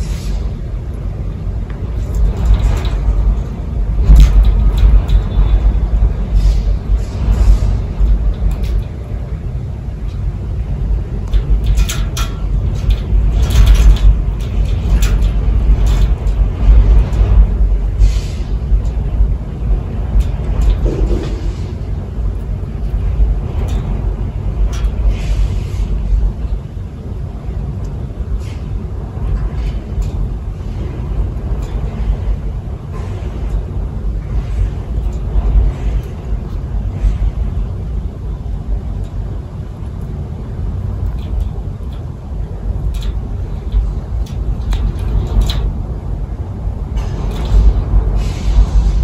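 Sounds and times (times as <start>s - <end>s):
strong wind gusting: 0.0s - 49.0s.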